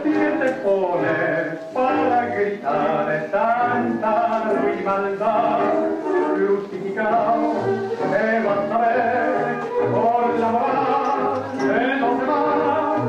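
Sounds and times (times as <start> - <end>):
person singing: 0.0 - 13.0
tango music: 0.0 - 13.0.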